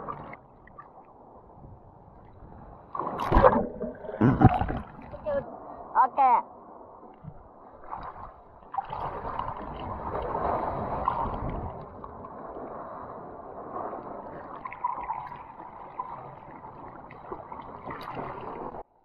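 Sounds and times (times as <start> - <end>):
waves breaking: 0.0 - 18.9
whitewater rushing and sloshing: 2.4 - 18.9.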